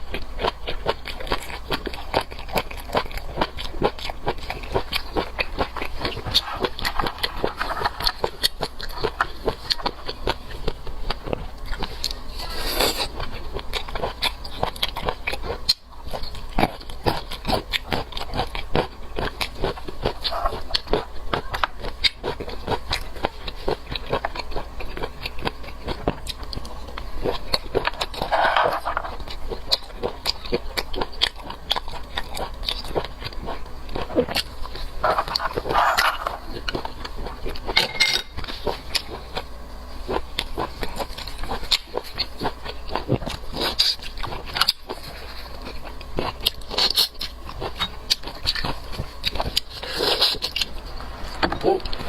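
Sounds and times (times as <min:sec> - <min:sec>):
wet chewing and lip-smacking: 0:00.0 - 0:52.0.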